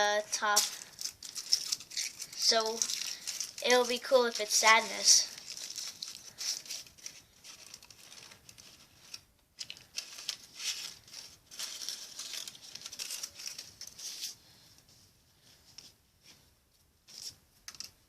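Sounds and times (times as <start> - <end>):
wrapper rustling and crinkling: 0.0 - 14.6.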